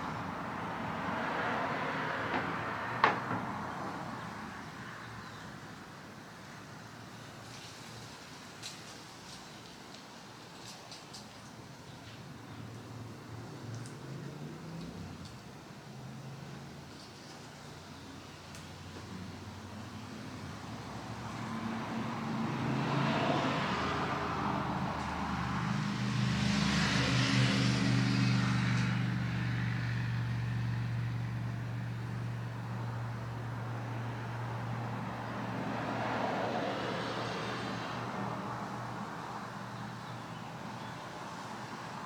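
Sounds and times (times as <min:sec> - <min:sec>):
vehicles passing: 0:00.0 - 0:05.6, 0:12.3 - 0:42.0.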